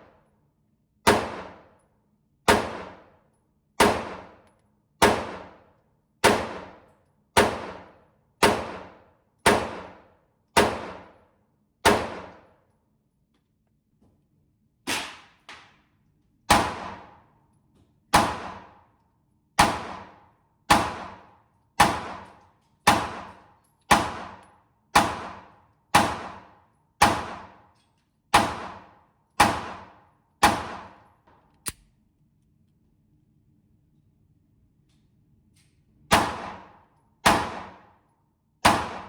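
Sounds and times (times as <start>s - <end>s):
pistol shots echoing indoors: 0.0s - 12.8s, 14.8s - 31.8s, 36.1s - 39.0s.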